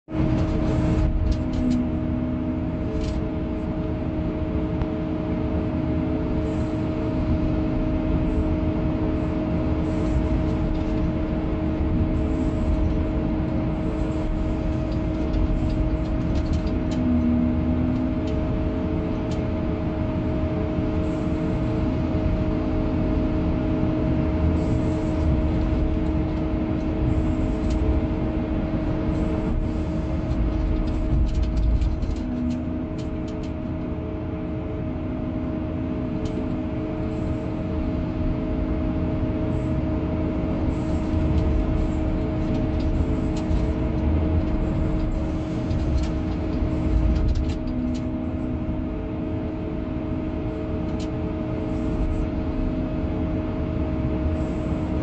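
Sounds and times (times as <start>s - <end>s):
excavator engine and hydraulics: 0.1s - 55.0s.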